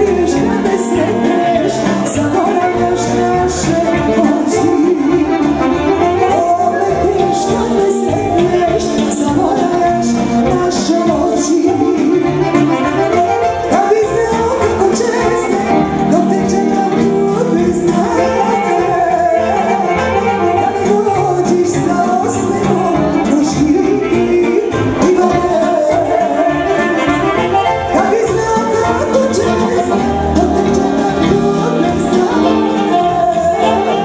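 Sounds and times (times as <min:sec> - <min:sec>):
accordions: 0:00.0 - 0:34.0
keyboards: 0:00.0 - 0:34.0
saxophone: 0:00.0 - 0:34.0
woman singing into microphone: 0:00.0 - 0:34.0.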